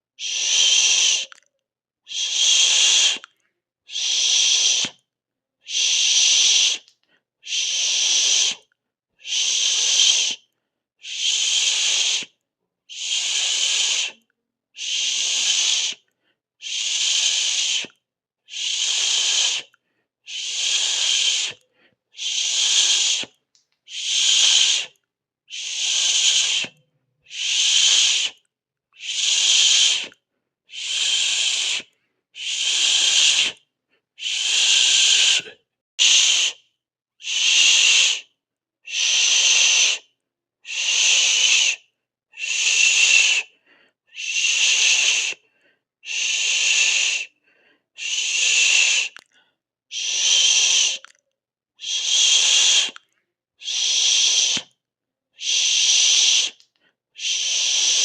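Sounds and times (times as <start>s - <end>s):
person hissing through teeth: 0.2s - 1.4s, 2.1s - 3.3s, 3.9s - 5.0s, 5.6s - 16.0s, 16.6s - 28.4s, 29.0s - 33.6s, 34.2s - 36.6s, 37.2s - 38.3s, 38.9s - 47.4s, 48.0s - 49.3s, 49.9s - 51.2s, 51.8s - 53.0s, 53.6s - 54.8s, 55.4s - 58.0s.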